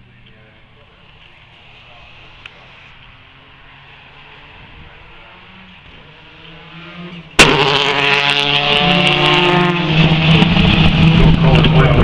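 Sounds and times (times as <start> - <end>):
faint car engine: 0.0 - 12.0
rally car engine running hard: 1.0 - 12.0.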